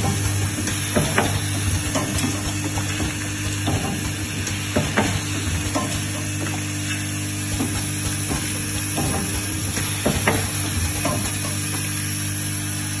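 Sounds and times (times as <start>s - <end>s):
machine clicks and clacks: 0.0s - 12.3s
bowl feeder buzzing hum: 0.0s - 13.0s.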